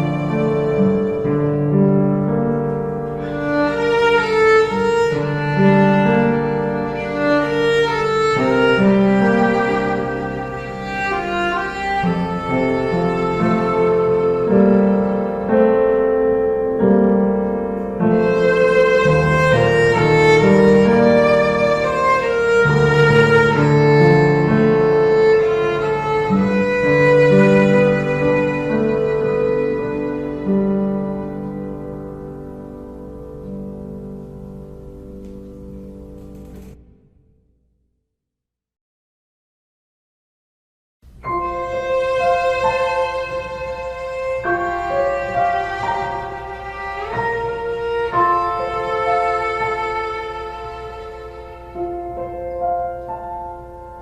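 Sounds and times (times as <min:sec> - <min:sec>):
slow bowed strings music: 0:00.0 - 0:36.8, 0:41.2 - 0:54.0.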